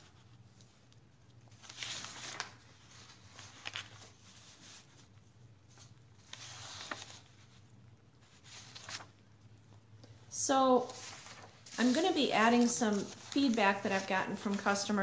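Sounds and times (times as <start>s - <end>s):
paper rustling: 0.0s - 9.3s, 10.7s - 15.0s.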